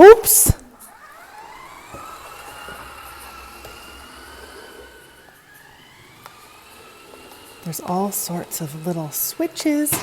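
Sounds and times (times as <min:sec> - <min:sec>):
toy car motor whining: 0:00.0 - 0:10.0.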